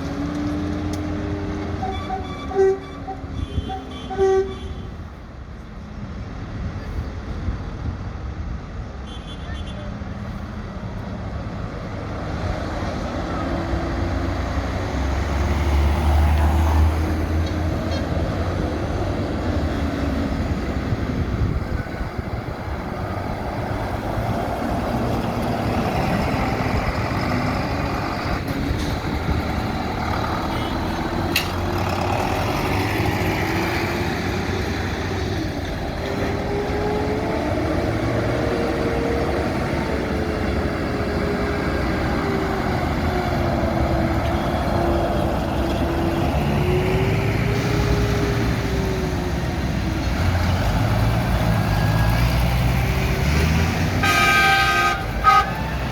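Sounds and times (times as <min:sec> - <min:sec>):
heavy vehicle engines rumbling: 0:00.0 - 0:55.9.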